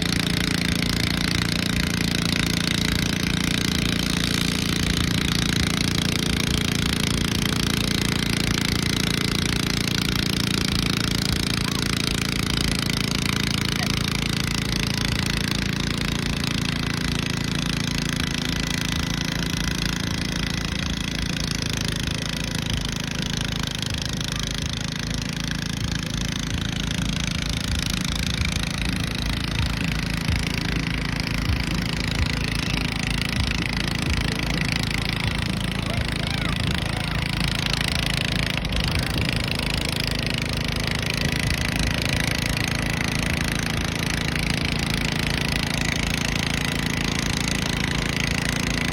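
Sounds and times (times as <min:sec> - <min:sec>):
tractor engine running steadily: 0:00.0 - 0:48.9.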